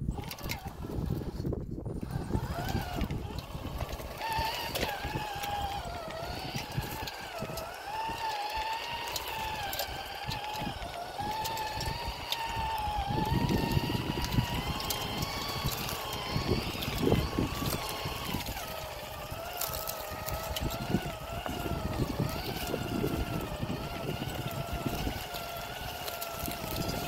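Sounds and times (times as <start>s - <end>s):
electric motor and gears whining: 0.0s - 27.0s.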